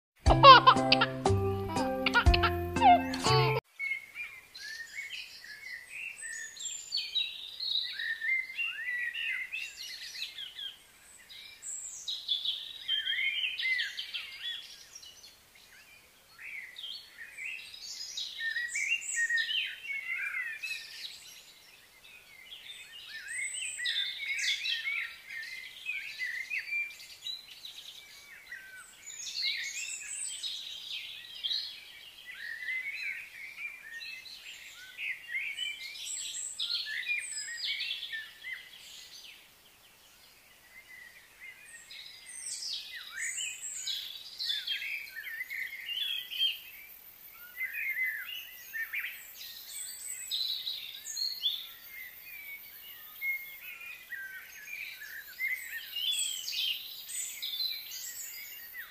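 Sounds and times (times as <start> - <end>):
songbirds chirping and singing: 0.4 - 58.9.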